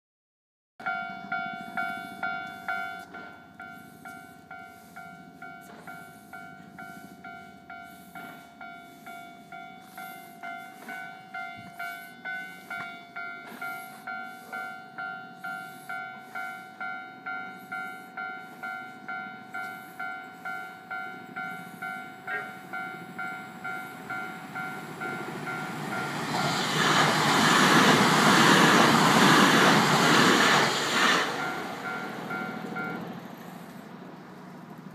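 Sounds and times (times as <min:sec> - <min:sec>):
level-crossing alarm bell ringing: 0:00.8 - 0:30.4, 0:31.0 - 0:33.6
train wheels rushing on rail: 0:01.0 - 0:34.9.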